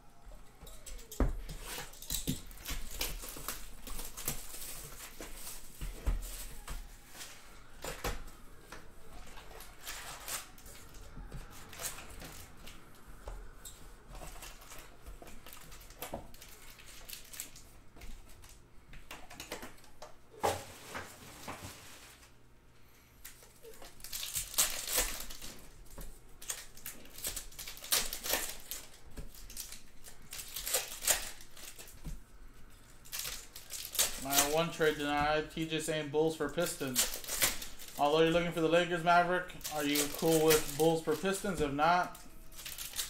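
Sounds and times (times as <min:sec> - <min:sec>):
cardboard and plastic rustling: 0:00.5 - 0:22.4, 0:23.2 - 0:43.0.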